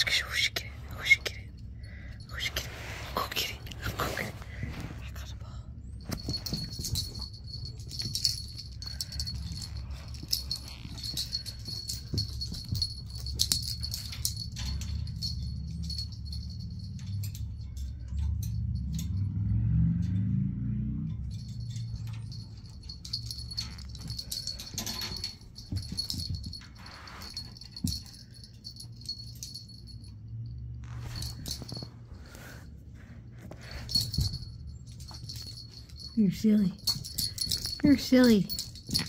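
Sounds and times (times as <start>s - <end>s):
metal tags and bell jingling: 0.0s - 39.0s.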